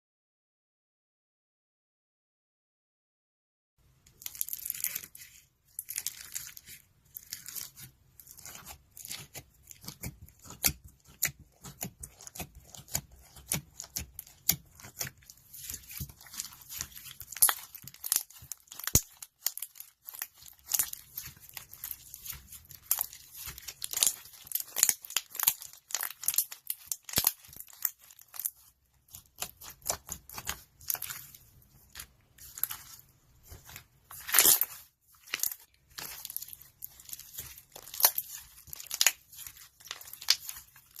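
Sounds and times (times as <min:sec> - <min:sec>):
slime squished by hand: 0:04.2 - 0:41.0.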